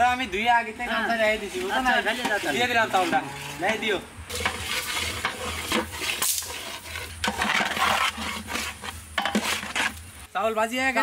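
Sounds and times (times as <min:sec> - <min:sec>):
rice frying: 0:00.0 - 0:03.5, 0:04.3 - 0:11.0
metal ladle scraping pot: 0:01.0 - 0:10.2.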